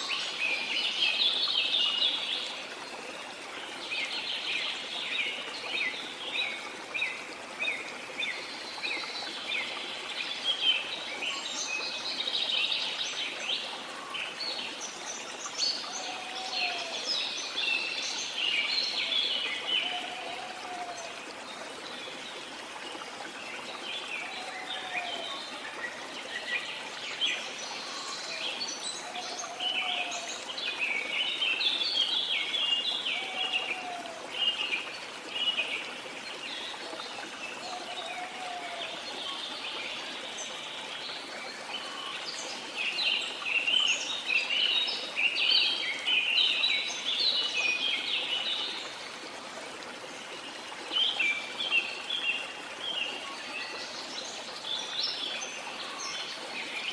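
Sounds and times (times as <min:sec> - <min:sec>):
running water: 0:00.0 - 0:56.9.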